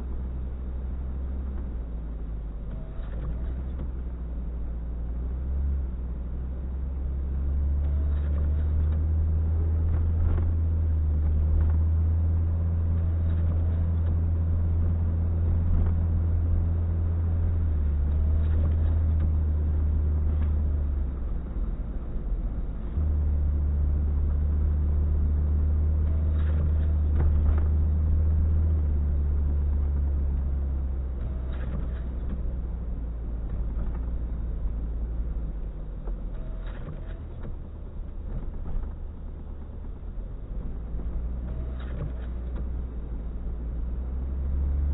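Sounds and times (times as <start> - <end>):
motor vehicle rumble: 0.0 - 44.9.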